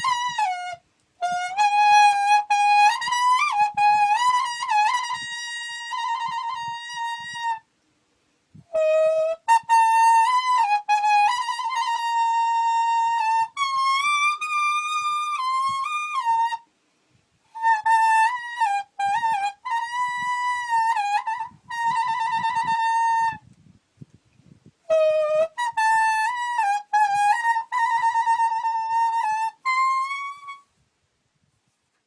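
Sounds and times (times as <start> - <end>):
leaf blown playing melody: 0.0 - 32.0.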